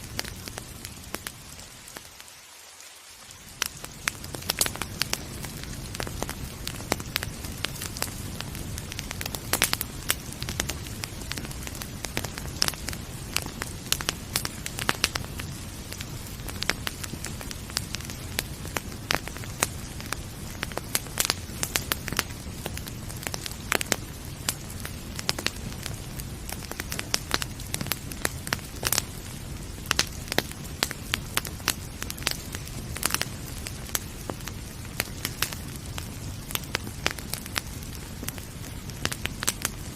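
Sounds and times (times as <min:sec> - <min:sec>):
fire popping and snapping: 0:00.0 - 0:02.4, 0:03.3 - 0:39.9
low rumble of burning fire: 0:00.0 - 0:39.9
wood fire crackling: 0:00.0 - 0:39.9.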